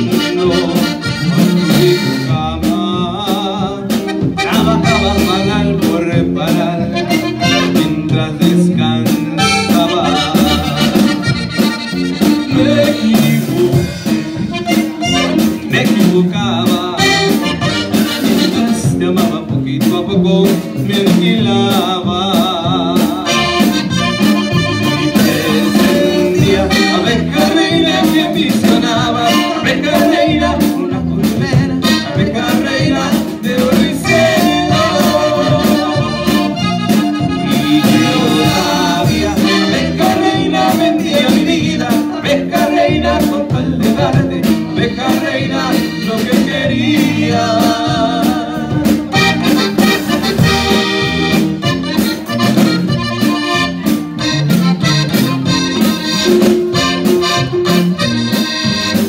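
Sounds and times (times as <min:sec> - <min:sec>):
button accordion melody: 0:00.0 - 0:59.0
drum kit steady beat: 0:00.0 - 0:59.0
guitars: 0:00.0 - 0:59.0.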